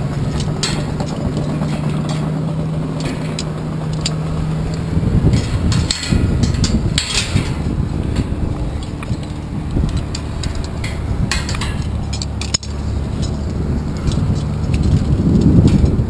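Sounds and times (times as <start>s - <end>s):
steady low hum: 0.0s - 16.0s
wind rumble on microphone: 0.0s - 16.0s
metal snap hooks clinking on steel: 0.3s - 16.0s.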